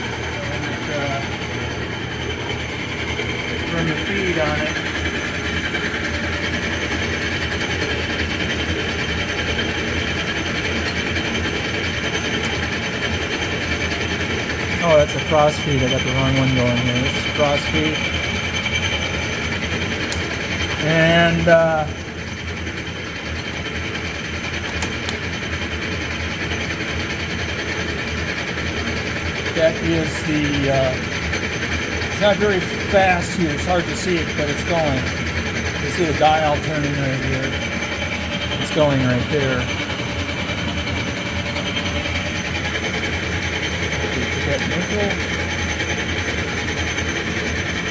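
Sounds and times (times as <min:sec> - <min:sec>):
lathe running with rapid clatter: 0:00.0 - 0:47.9.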